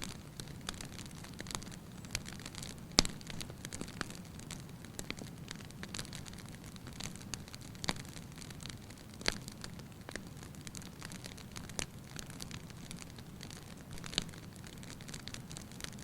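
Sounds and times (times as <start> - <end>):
sharp fire pops: 0.0 - 16.0
wood fire crackling: 0.0 - 16.0.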